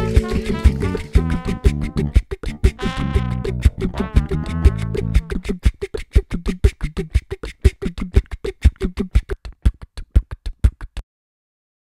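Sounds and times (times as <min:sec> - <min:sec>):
music with percussive beat: 0:00.0 - 0:11.0.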